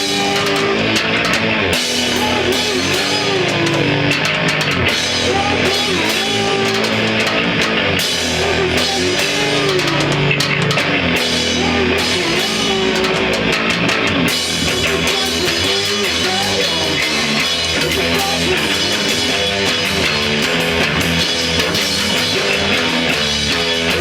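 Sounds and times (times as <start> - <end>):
rock band playing loudly: 0.0 - 24.0.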